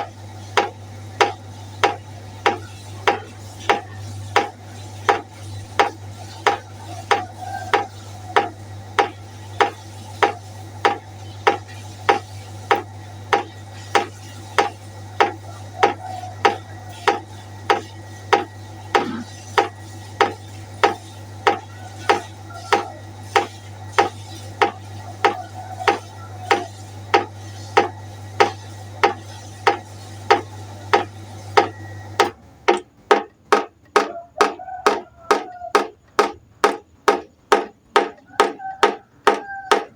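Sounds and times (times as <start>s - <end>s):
steady low hum: 0.0s - 39.9s
water dripping into a pot: 0.6s - 18.6s, 19.6s - 35.0s.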